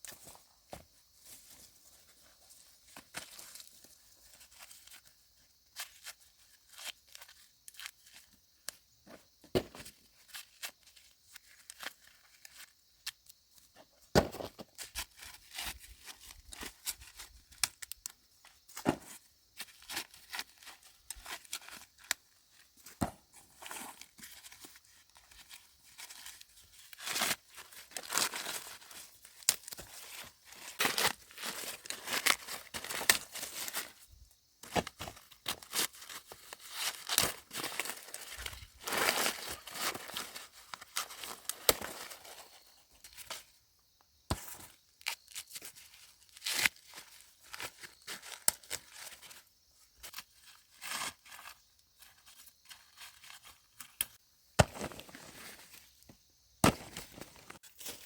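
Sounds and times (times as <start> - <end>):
dry corn leaves rustling: 0.0 - 43.5, 44.3 - 58.0.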